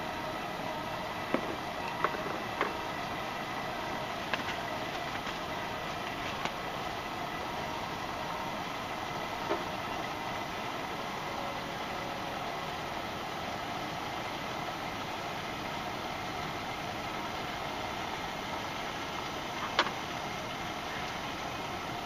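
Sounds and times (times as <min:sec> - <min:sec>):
campfire hissing: 0:00.0 - 0:22.0
fire crackle: 0:00.2 - 0:22.0.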